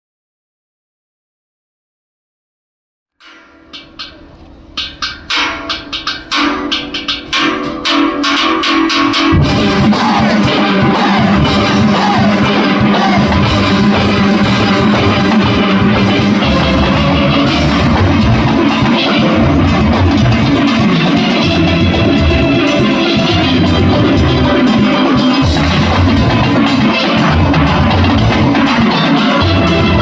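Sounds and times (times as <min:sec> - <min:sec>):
drum-kit percussion: 0:03.2 - 0:30.0
struck pan notes: 0:03.2 - 0:30.0
steel band playing: 0:03.3 - 0:30.0.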